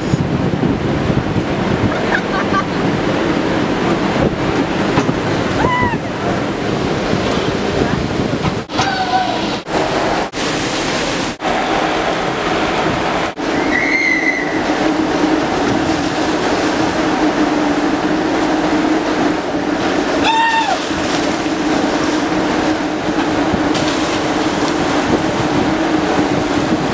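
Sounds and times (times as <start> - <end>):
water rushing down a waterslide: 0.0 - 26.9.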